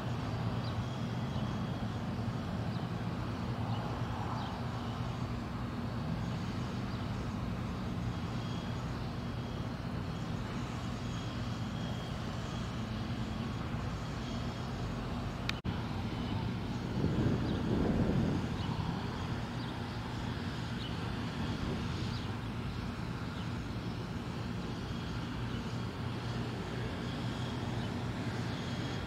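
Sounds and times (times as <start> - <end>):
urban background hum and rumble: 0.0 - 29.0.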